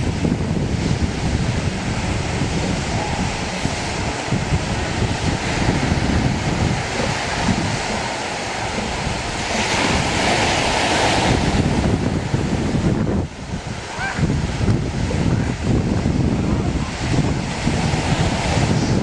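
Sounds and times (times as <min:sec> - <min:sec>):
ocean surf washing onto beach: 0:00.0 - 0:19.0
wind buffeting microphone: 0:00.0 - 0:19.0.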